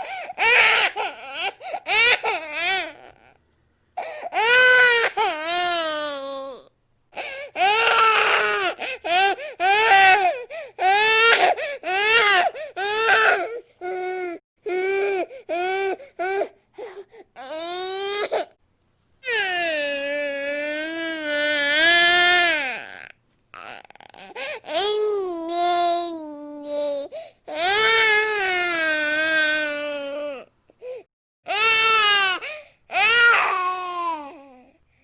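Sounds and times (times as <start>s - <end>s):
infant crying: 0.0s - 3.3s, 4.0s - 18.5s, 19.2s - 34.7s.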